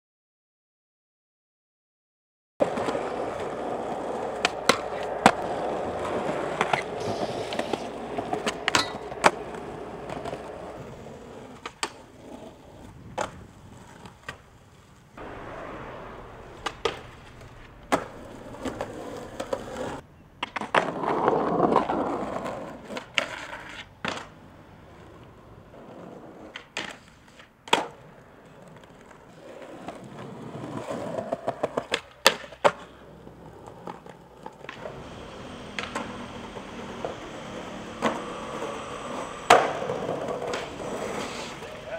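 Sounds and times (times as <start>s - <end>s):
skateboard popping and landing: 2.6s - 41.9s
skateboard wheels rolling on concrete: 2.6s - 41.9s.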